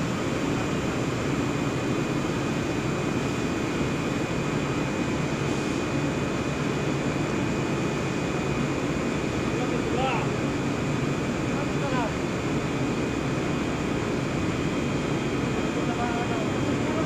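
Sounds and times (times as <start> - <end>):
machine hum and rush: 0.0 - 17.0.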